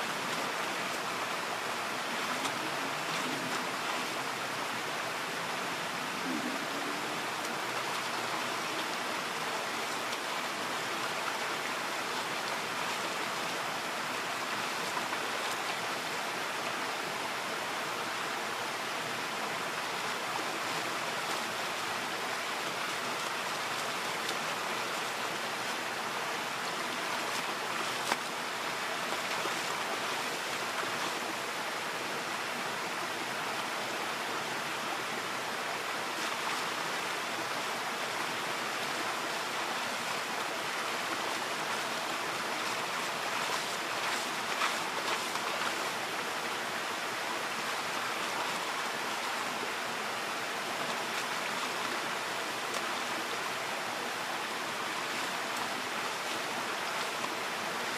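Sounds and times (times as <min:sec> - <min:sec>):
creek water rushing over stones: 0:00.0 - 0:57.9.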